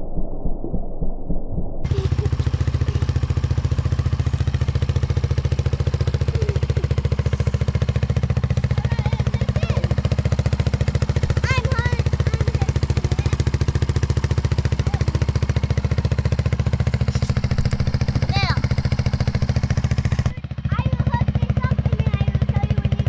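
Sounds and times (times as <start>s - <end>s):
engine running steadily: 1.9s - 23.0s.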